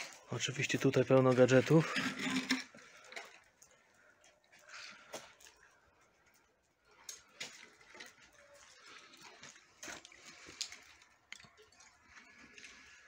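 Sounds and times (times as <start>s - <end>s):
faint clicks and rustles: 0.0s - 13.0s.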